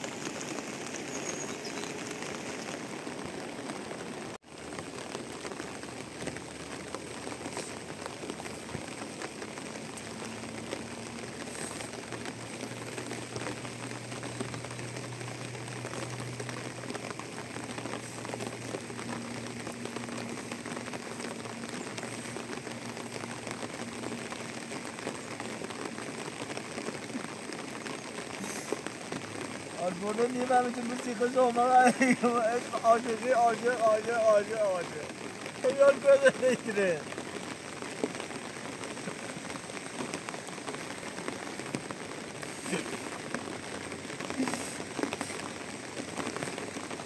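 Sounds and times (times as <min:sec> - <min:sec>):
rain pattering: 0:00.0 - 0:47.0.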